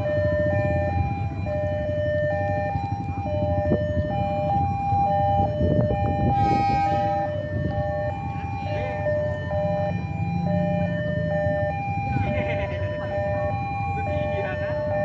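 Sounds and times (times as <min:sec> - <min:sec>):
level crossing alarm tones: 0:00.0 - 0:15.0
low traffic rumble: 0:00.0 - 0:15.0.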